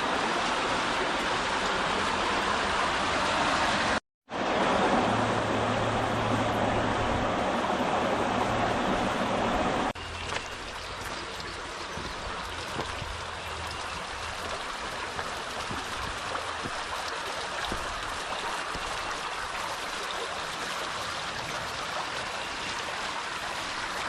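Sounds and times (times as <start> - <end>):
creek water rushing and trickling: 0.0 - 24.0.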